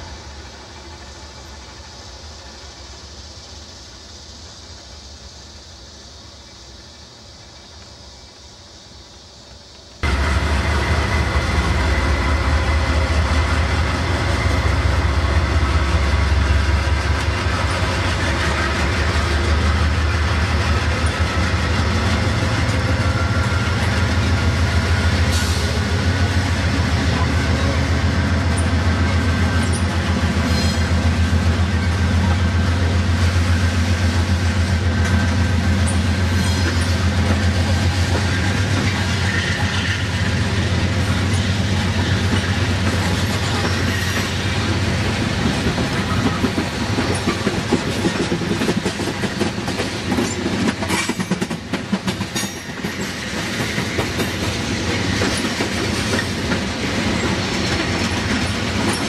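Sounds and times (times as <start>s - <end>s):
diesel locomotive drone: 0.0s - 59.0s
train wheels clicking over rail joints: 0.0s - 59.0s.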